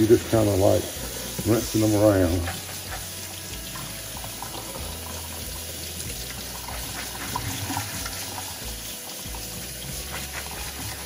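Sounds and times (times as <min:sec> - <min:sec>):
faucet running: 0:00.0 - 0:11.0
water splashing through beans: 0:00.0 - 0:11.0.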